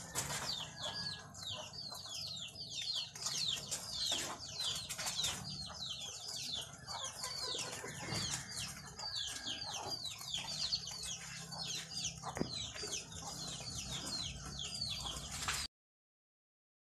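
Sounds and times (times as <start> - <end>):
birds chirping: 0.0 - 15.7.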